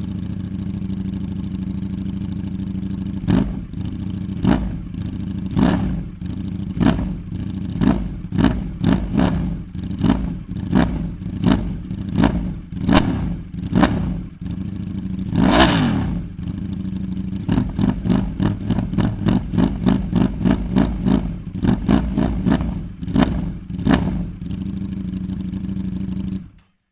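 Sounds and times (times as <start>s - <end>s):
motorcycle engine throttle blips: 0.0s - 26.9s.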